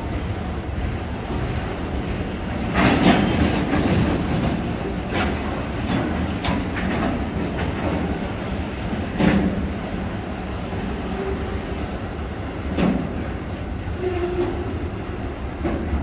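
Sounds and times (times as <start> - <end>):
freight train rumbling: 0.0 - 16.0
wheels clacking over rail joints: 0.1 - 16.0.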